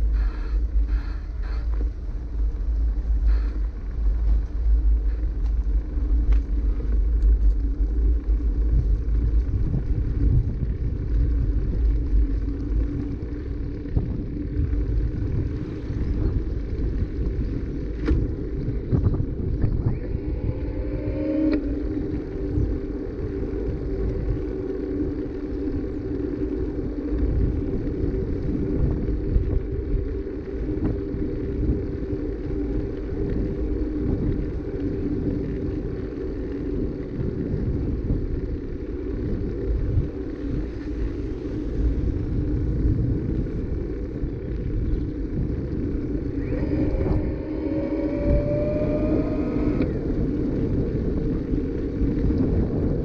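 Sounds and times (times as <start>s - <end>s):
short rising whine: 0.0s - 42.7s, 43.4s - 52.5s
bicycle tyres rolling on asphalt: 0.0s - 53.0s
wind on the microphone: 0.0s - 53.0s.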